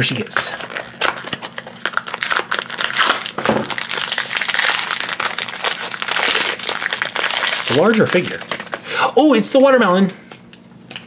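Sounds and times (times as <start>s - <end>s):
foil bag crinkling: 0.0s - 9.7s.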